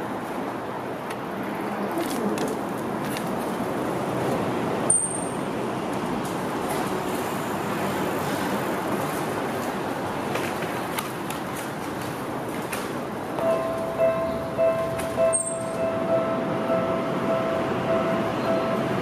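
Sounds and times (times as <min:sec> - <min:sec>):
distant train: 0:00.0 - 0:19.0
traffic rumble: 0:00.0 - 0:19.0.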